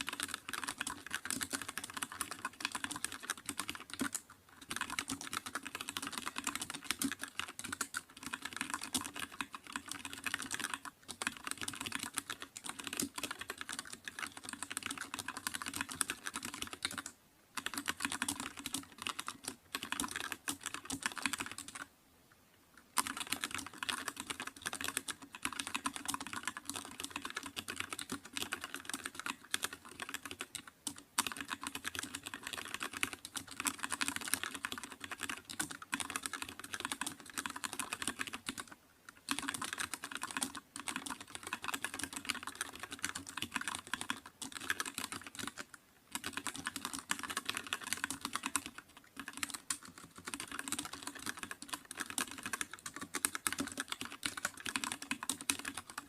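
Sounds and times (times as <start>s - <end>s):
computer keyboard typing: 0.0s - 21.9s, 22.9s - 56.0s.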